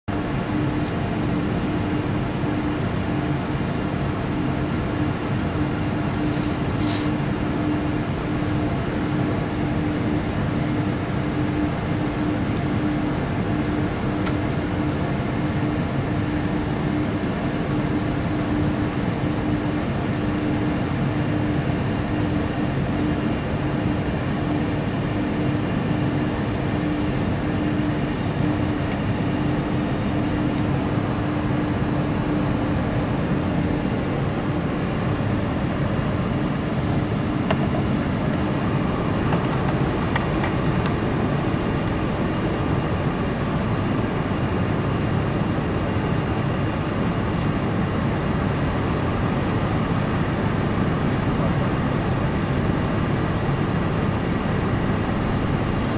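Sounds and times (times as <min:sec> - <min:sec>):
airplane cabin rumble: 0:00.1 - 0:55.9.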